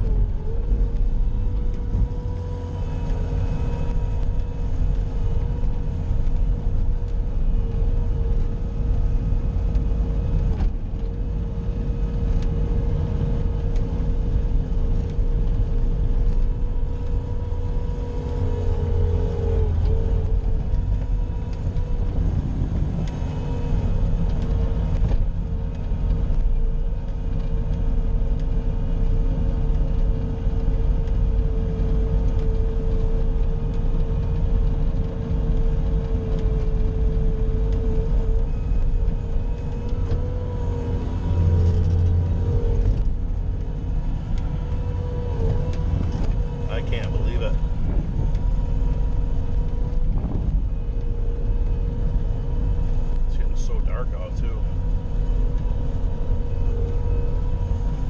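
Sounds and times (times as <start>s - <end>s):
diesel engine running under load: 0.0s - 58.0s
engine whine: 0.0s - 58.0s.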